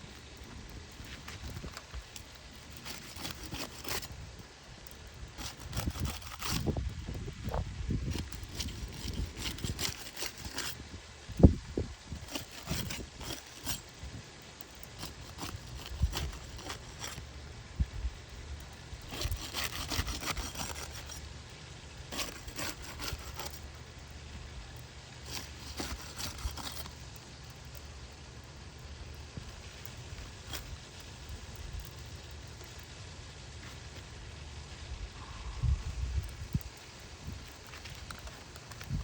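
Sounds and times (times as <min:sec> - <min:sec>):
scraping and rubbing strokes: 0:00.0 - 0:28.1, 0:29.2 - 0:39.0.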